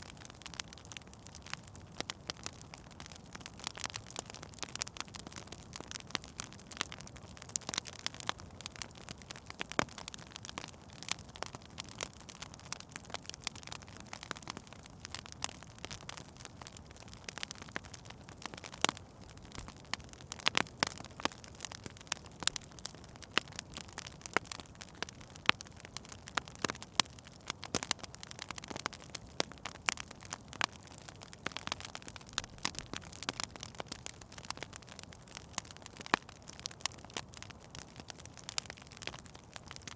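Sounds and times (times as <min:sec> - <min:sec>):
fire hissing softly: 0:00.0 - 0:39.9
wood fire crackling and popping: 0:00.0 - 0:39.9.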